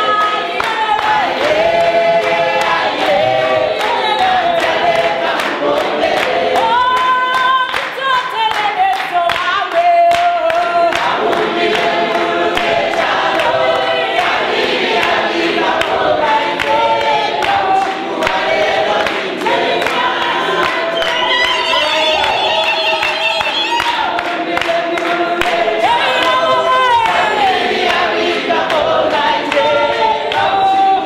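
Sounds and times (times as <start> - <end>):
congregation singing: 0.0 - 31.0
hand-clapping in time: 0.0 - 31.0.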